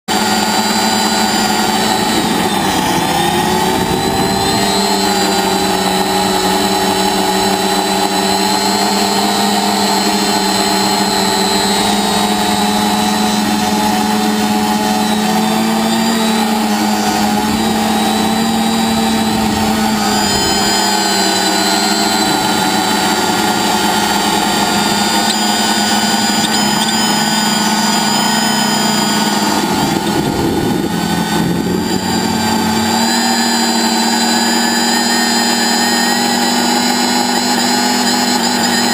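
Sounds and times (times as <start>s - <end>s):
quadcopter propellers whining: 0.0s - 38.9s.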